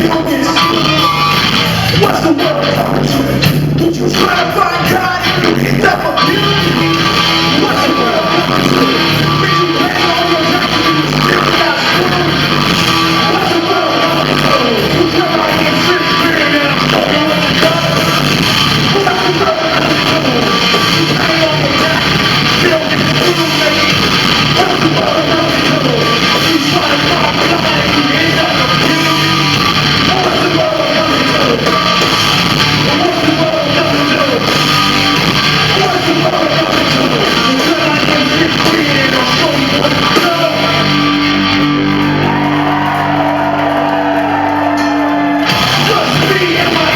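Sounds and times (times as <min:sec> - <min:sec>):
person singing: 0:00.0 - 0:18.2, 0:18.8 - 0:32.2, 0:32.8 - 0:42.2, 0:44.8 - 0:46.9
live rock band playing: 0:00.0 - 0:46.9.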